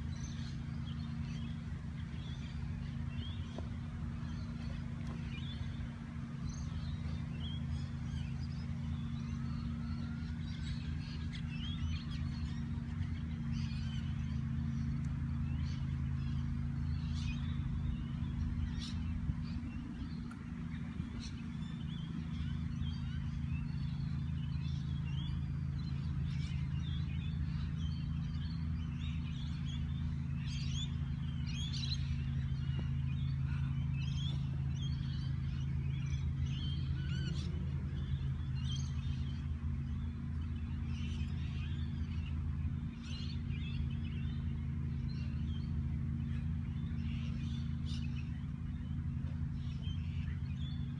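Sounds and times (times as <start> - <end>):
birds chirping: 0.0 - 50.9
low steady hum: 0.0 - 50.9.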